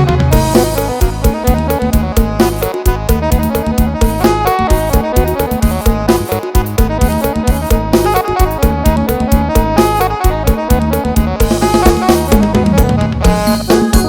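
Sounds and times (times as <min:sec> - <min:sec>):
driving drum beat: 0:00.0 - 0:14.0
electronic keyboard melody: 0:00.0 - 0:14.0.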